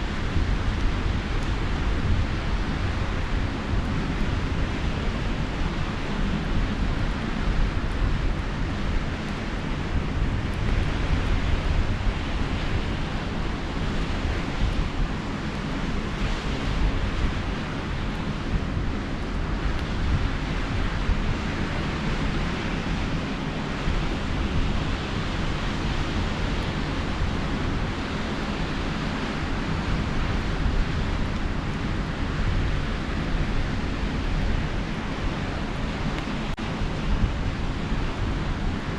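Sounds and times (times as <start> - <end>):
sea surf washing on shore: 0.0 - 38.9
wind buffeting microphone: 0.0 - 38.9.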